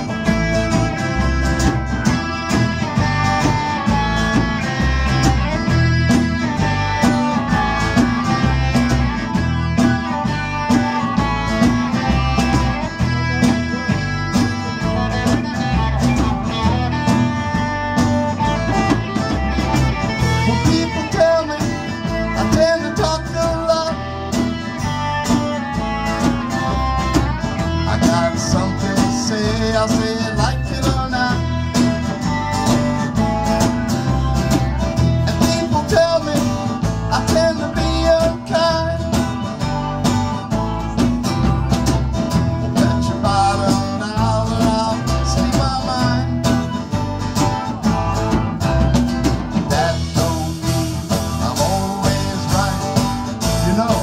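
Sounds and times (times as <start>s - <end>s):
acoustic and electric guitars: 0.0s - 54.0s
drum kit beat: 0.0s - 54.0s.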